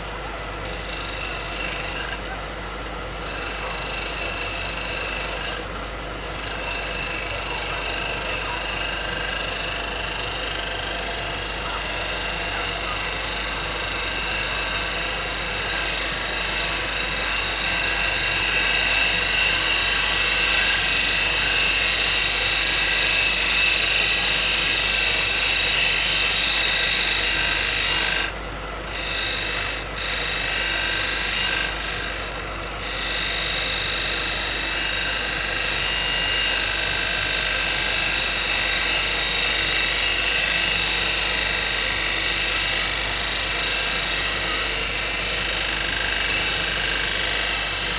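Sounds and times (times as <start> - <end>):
wood lathe running: 0.0 - 2.4, 3.0 - 47.9
gouge cutting wood on lathe: 0.6 - 2.4, 3.2 - 47.9.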